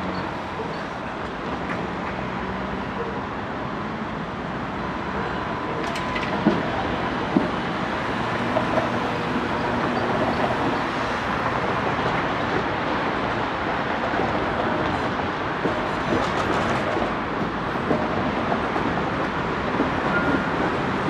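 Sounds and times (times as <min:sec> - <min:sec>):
tram rolling on rails: 0:00.0 - 0:21.0.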